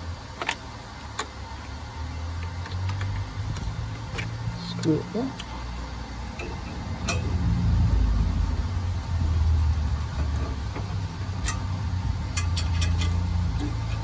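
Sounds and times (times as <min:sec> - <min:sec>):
steady low rumble: 0:02.7 - 0:14.0.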